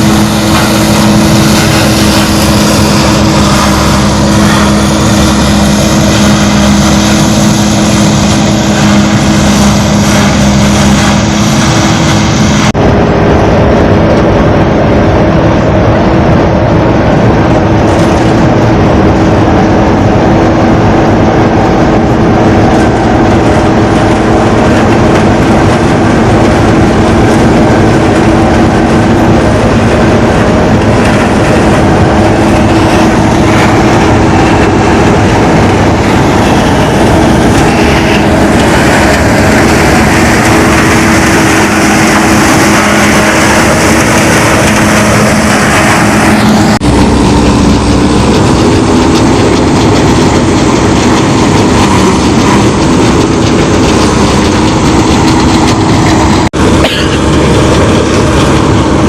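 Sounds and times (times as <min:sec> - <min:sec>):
clattering machinery: 0:00.0 - 0:59.0
combine harvester engine running: 0:00.0 - 0:59.0.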